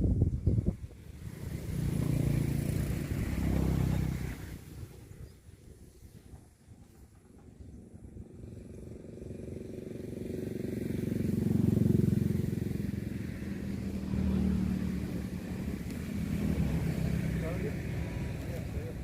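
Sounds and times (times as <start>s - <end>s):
small engine running: 0.6s - 19.0s.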